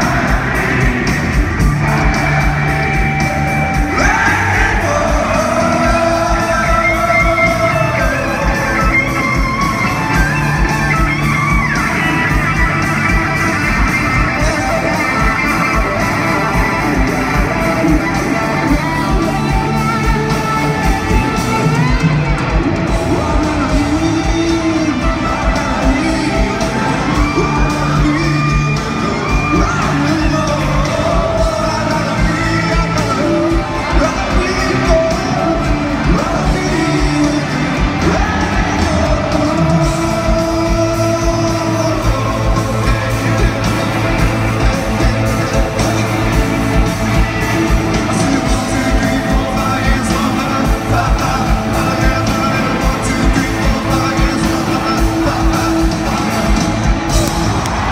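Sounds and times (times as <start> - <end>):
man singing lead vocals: 0.0 - 21.8, 22.8 - 57.9
rock band playing live: 0.0 - 57.9.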